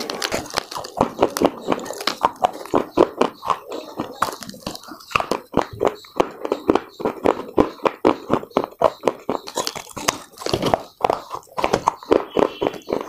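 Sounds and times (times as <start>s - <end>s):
person chewing crunchy clay: 0.0s - 13.0s.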